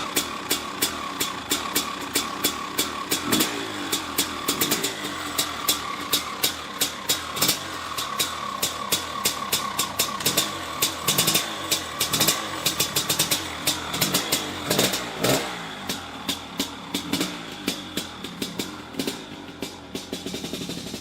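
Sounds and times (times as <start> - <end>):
dirt bike engine idling: 0.0 - 21.0
sharp exhaust pops: 0.0 - 21.0.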